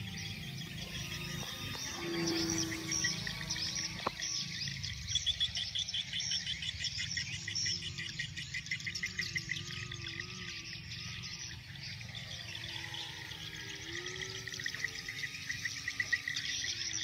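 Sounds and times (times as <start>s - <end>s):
birds chirping: 0.0s - 17.0s
faint wavering tone: 0.0s - 17.0s
insects chirping: 0.0s - 17.0s.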